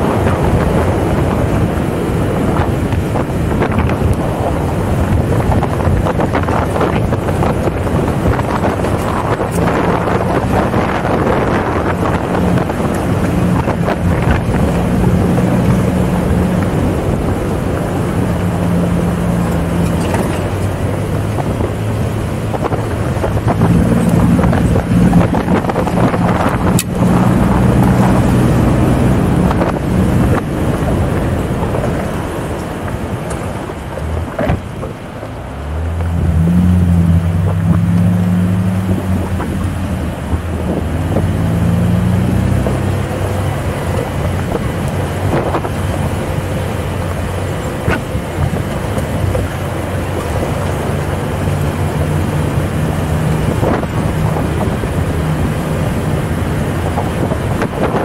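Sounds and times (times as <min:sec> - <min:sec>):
engine revving under load: 0:00.0 - 0:58.0.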